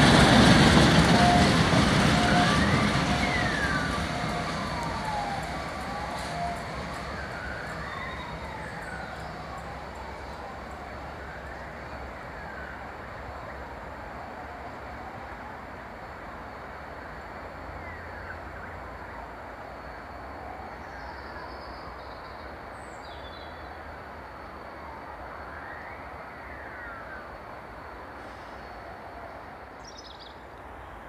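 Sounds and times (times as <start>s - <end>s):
distant siren wailing: 0.0s - 22.7s, 23.6s - 29.9s
distant town rumble: 0.0s - 31.0s.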